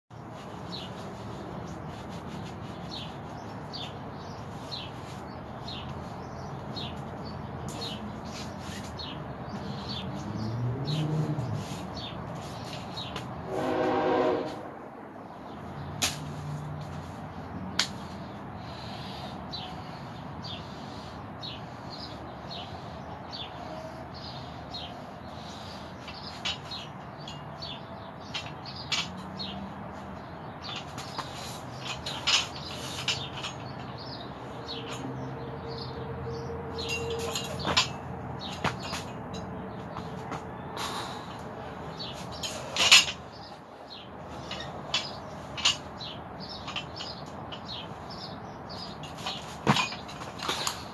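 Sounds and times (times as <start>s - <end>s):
small birds chirping: 0.1s - 13.5s, 15.2s - 50.9s.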